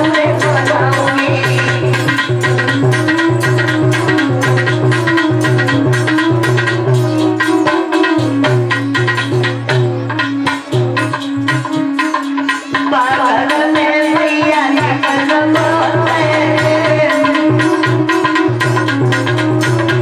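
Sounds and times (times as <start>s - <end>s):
fast hand drum beat: 0.0s - 20.0s
wavering melody: 0.0s - 20.0s.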